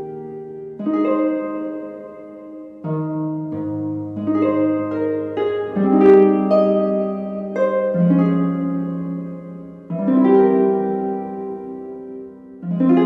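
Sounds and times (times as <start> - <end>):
plucked harp-like music: 0.0 - 13.0.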